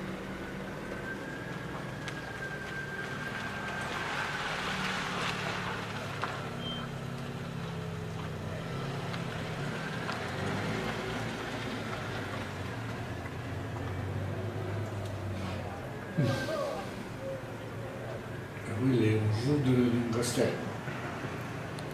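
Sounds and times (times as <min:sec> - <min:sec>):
outdoor background noise: 0:00.0 - 0:21.9
vehicle engine humming: 0:00.0 - 0:21.9.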